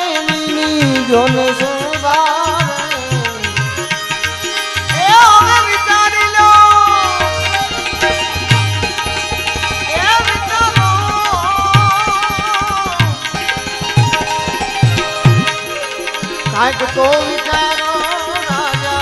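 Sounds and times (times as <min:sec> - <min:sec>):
tabla strokes: 0:00.0 - 0:19.0.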